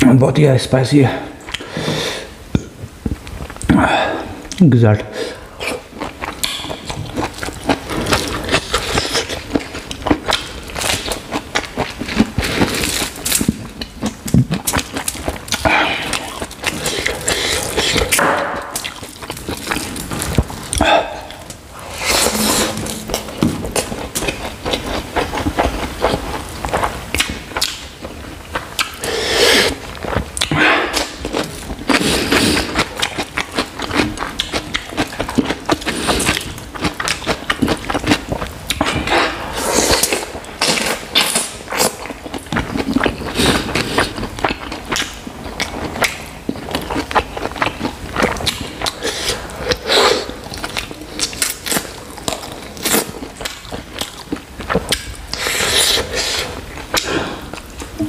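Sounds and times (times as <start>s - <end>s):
wet chewing and lip-smacking: 5.6s - 22.4s, 23.0s - 58.0s.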